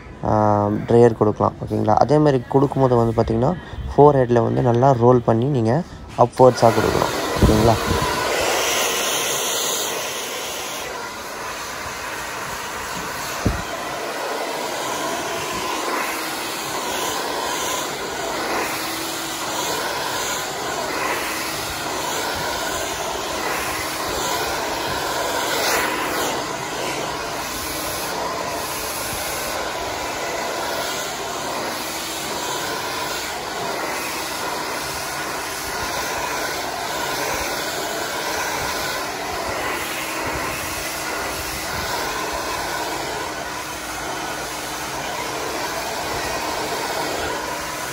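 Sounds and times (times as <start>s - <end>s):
hair dryer blowing: 1.3s - 47.9s.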